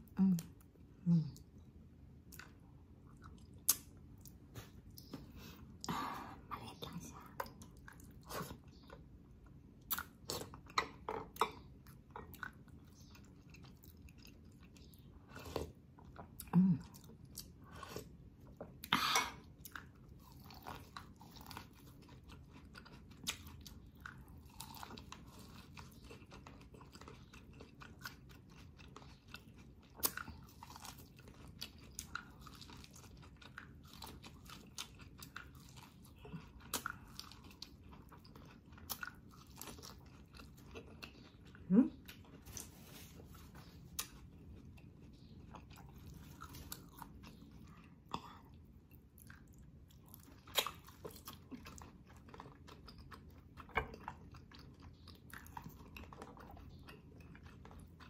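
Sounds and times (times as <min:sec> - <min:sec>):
chewing corn on the cob: 0:07.2 - 0:58.0.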